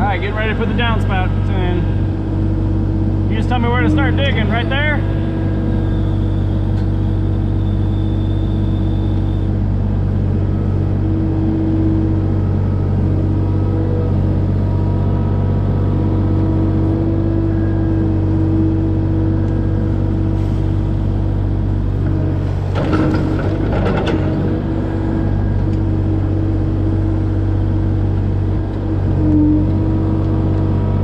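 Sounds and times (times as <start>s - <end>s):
excavator diesel engine running: 0.0s - 31.0s
hydraulic whine: 0.0s - 31.0s.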